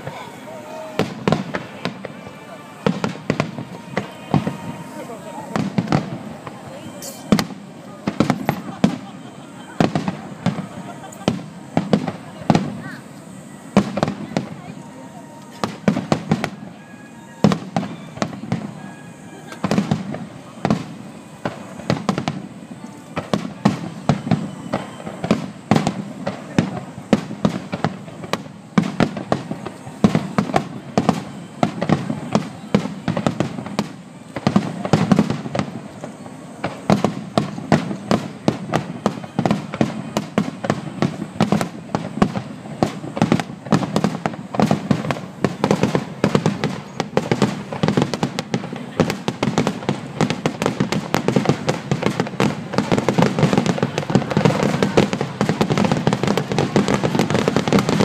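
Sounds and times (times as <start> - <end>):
firework shells bursting: 0.0 - 22.6, 23.2 - 58.0.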